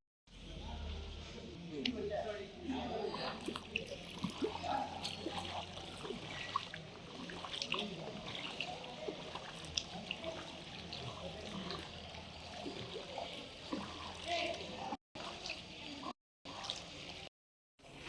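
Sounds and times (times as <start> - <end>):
floodwater trickling and flowing: 0.4 - 18.0
small splashes: 3.1 - 18.0.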